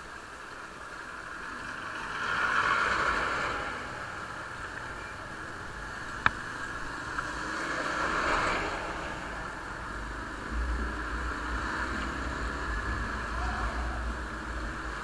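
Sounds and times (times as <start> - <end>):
passing traffic: 0.0 - 15.0
tyres hissing on wet road: 0.0 - 15.0
bus passing: 1.0 - 15.0.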